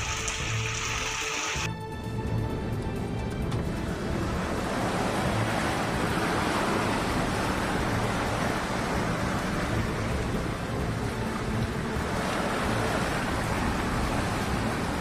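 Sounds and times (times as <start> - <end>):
rain: 0.0 - 1.7, 3.7 - 15.0
floodwater rushing around vehicle: 0.0 - 15.0.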